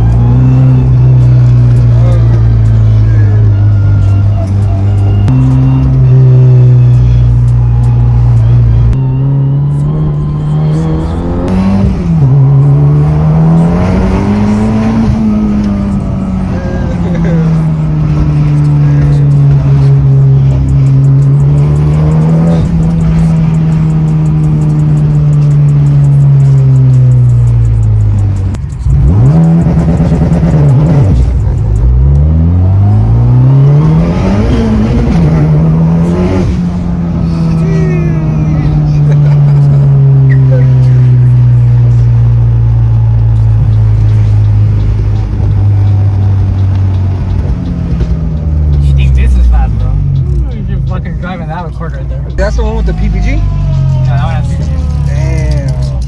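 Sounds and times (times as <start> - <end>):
car engine pulling under throttle: 0.0 - 56.0.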